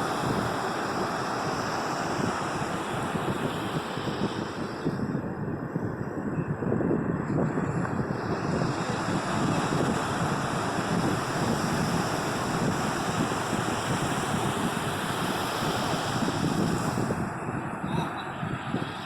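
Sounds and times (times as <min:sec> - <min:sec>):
sea surf washing onto beach: 0:00.0 - 0:05.1, 0:07.1 - 0:19.0
wind buffeting microphone: 0:00.0 - 0:19.0.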